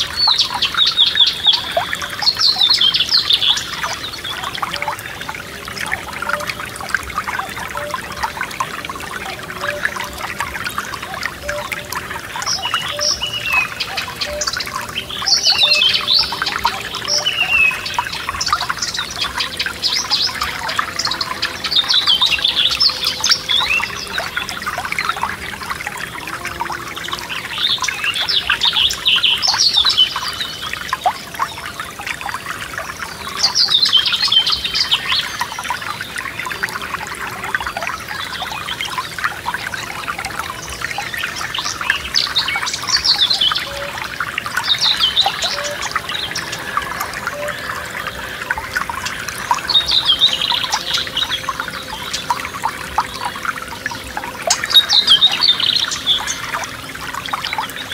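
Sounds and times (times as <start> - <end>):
songbirds chirping and trilling: 0.0 - 57.9
stream trickling and gurgling: 0.0 - 57.9.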